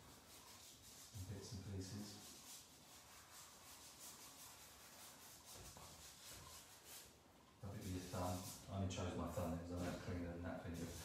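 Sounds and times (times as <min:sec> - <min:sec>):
pastel rubbing on paper: 0:00.0 - 0:11.0.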